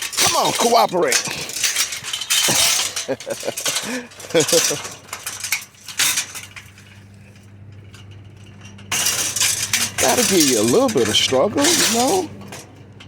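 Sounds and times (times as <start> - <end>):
low steady hum: 0.0 - 13.0
metal bed frame clanking: 0.0 - 13.0.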